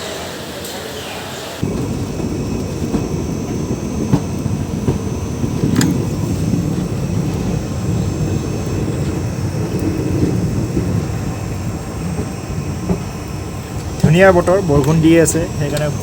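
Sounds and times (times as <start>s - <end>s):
sharp clicks and knocks: 1.6s - 16.0s
train rumbling: 1.6s - 16.0s.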